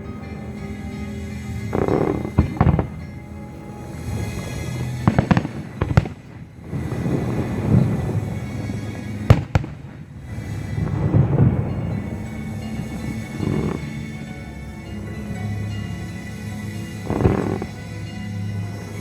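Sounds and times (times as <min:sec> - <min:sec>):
music: 0:00.0 - 0:19.0
fireworks bursting with bangs: 0:01.0 - 0:14.4, 0:16.2 - 0:19.0.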